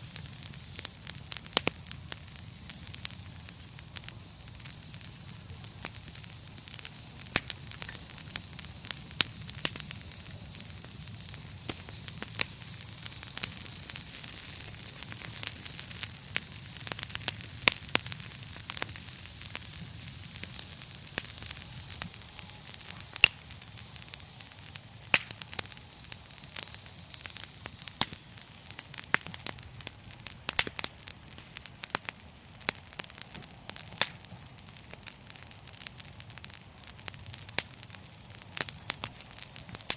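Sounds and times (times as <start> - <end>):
fire popping and snapping: 0.0 - 39.9
wood fire hissing: 0.0 - 39.9.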